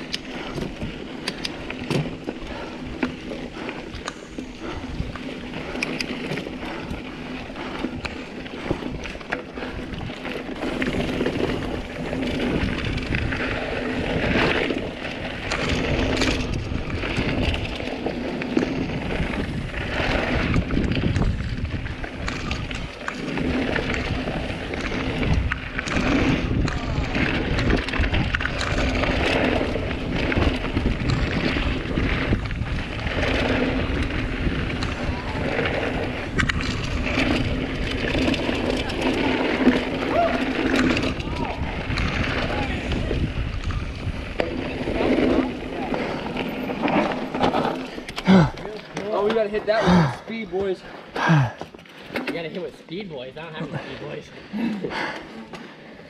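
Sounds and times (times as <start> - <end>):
bike rattling and knocking: 0.0 - 54.2
bike tyres rumbling over dirt: 0.0 - 56.0
wind buffeting microphone: 2.1 - 48.6.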